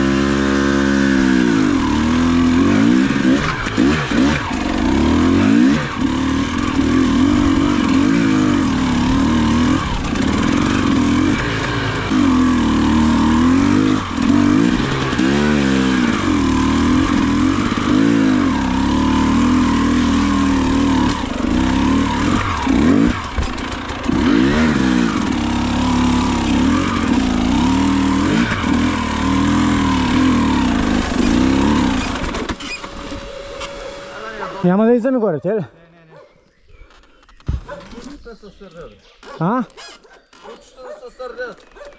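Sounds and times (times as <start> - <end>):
dirt bike engine revving: 0.0 - 35.4.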